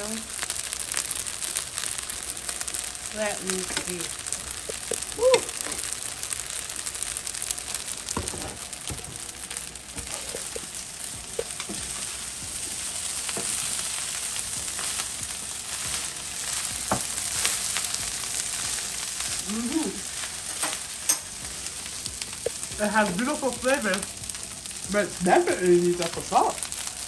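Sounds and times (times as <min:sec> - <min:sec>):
rice sizzling in a skillet: 0:00.0 - 0:27.0.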